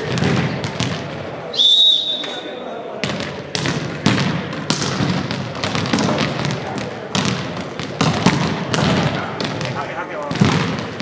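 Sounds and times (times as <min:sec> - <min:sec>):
volleyball hits echoing: 0:00.0 - 0:11.0.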